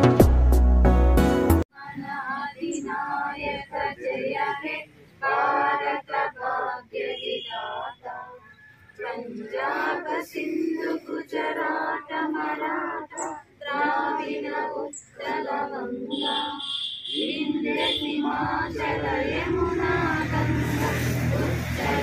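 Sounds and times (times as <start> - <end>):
adults and children singing: 1.8 - 22.0.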